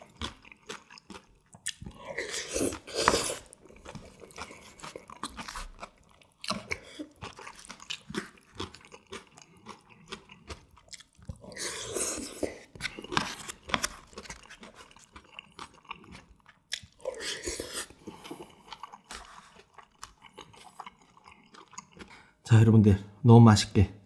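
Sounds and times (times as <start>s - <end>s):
person chewing noodles: 0.0s - 22.4s.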